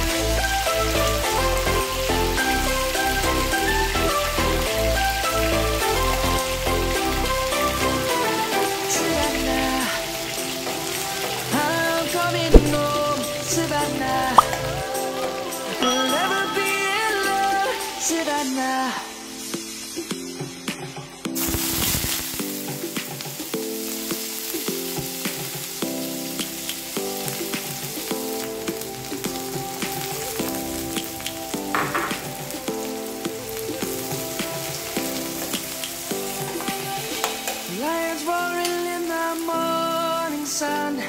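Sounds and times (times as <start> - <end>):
instrumental background music: 0.0 - 41.0
vegetables sizzling in oil: 0.0 - 41.0.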